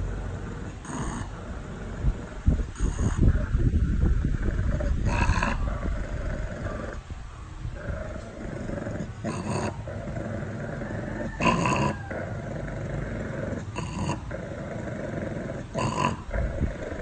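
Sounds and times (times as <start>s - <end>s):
dog growling: 0.0s - 7.0s, 7.8s - 17.0s.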